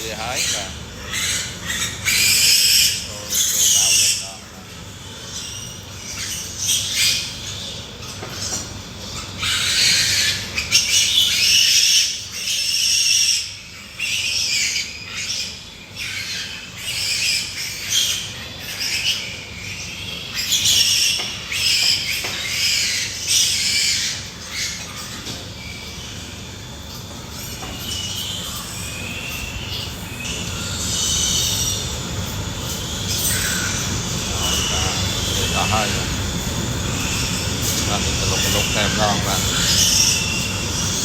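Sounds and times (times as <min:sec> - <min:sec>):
pigs squealing: 0:00.0 - 0:41.0.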